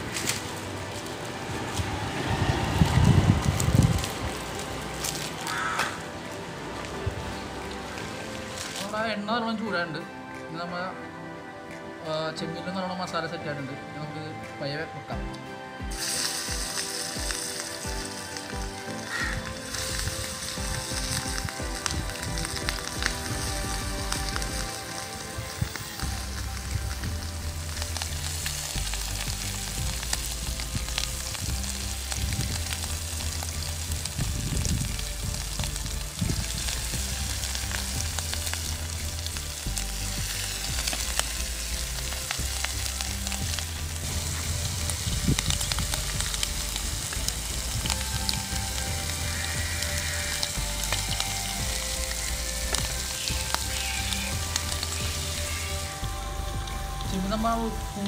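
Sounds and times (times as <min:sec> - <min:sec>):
prawns sizzling in hot oil: 0:00.0 - 0:09.3, 0:15.8 - 0:58.0
oil crackling and popping: 0:00.0 - 0:09.9, 0:15.3 - 0:58.0.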